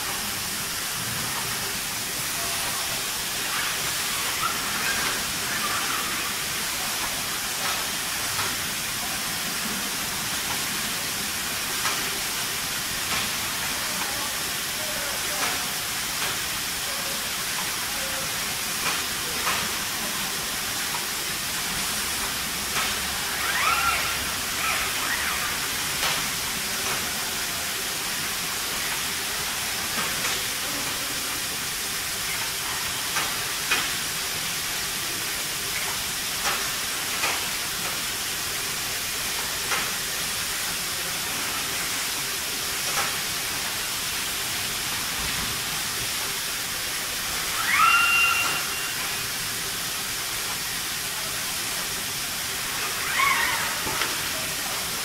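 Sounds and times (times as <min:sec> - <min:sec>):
steady factory hiss: 0:00.0 - 0:55.0.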